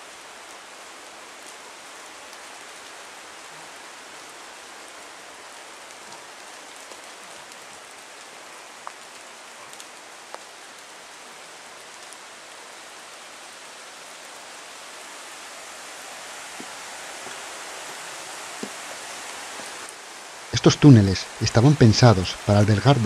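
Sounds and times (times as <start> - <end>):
falling water hiss: 0.0 - 23.0.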